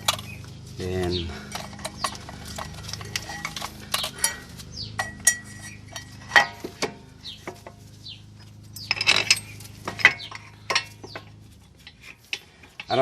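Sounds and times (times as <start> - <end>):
steady low hum: 0.0 - 12.9
metal tools clinking: 0.0 - 13.0.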